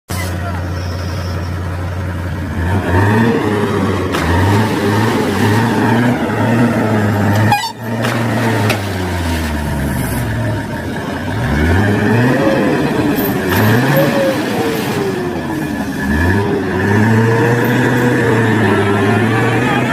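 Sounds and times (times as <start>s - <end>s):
vehicle engine revving: 0.2s - 19.9s.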